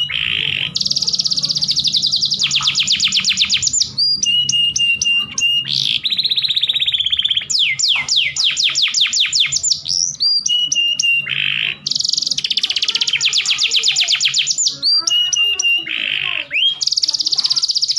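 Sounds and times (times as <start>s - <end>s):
canary singing: 0.0s - 17.9s.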